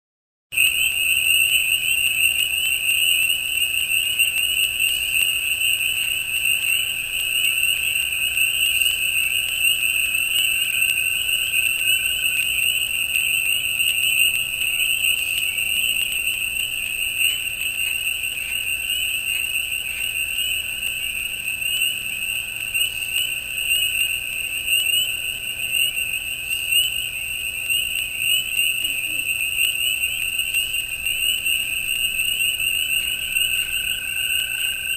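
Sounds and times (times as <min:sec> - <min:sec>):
crickets trilling: 0:00.5 - 0:34.9
spring peepers chorus: 0:00.5 - 0:34.9
low frog calls: 0:00.6 - 0:34.9.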